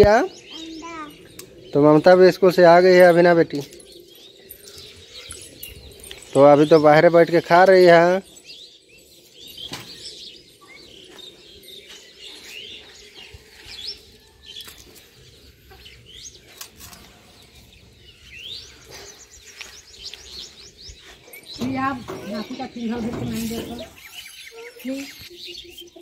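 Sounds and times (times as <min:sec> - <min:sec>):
birds chirping: 0:00.0 - 0:26.0
bird trill: 0:00.2 - 0:16.7, 0:17.6 - 0:26.0.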